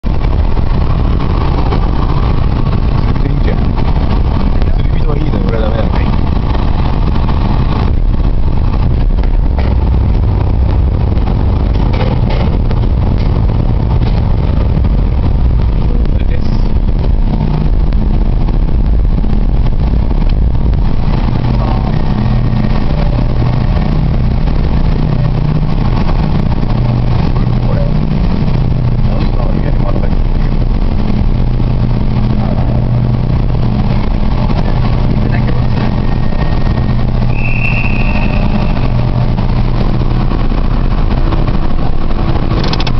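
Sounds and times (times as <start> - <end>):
ferry engines rumbling: 0.0 - 42.9.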